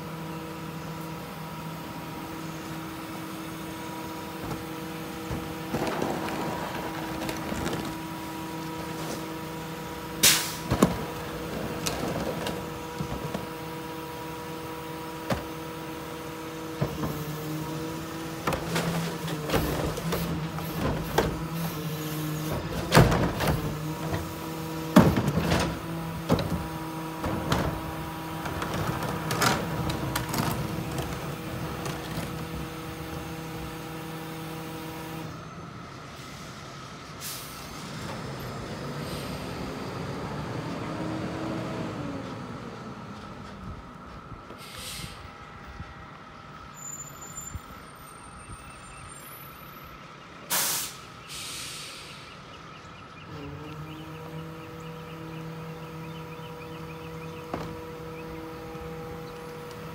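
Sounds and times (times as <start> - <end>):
garbage truck idling: 0.0 - 59.9.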